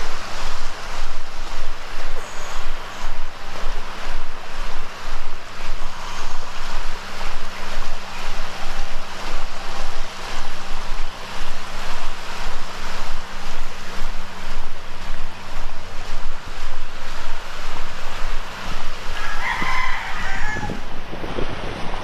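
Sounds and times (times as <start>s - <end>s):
surf washing on beach: 0.0s - 22.0s
wind noise on microphone: 0.0s - 22.0s.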